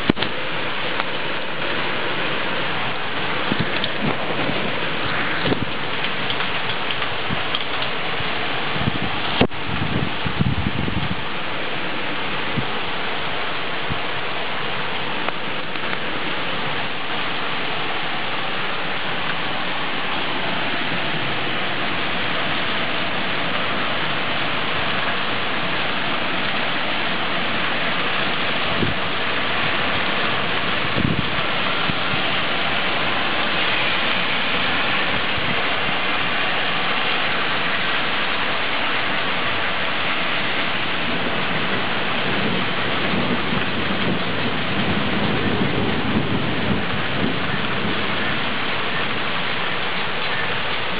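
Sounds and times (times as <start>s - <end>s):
heavy rain on ground and foliage: 0.0s - 50.9s.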